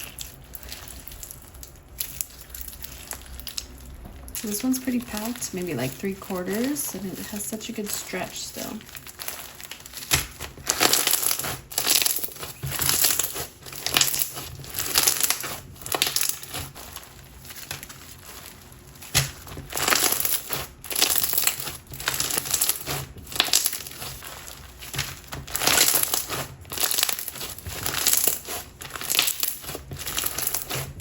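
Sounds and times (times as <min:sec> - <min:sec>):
slime crunching and popping: 0:00.0 - 0:07.2, 0:07.8 - 0:31.0.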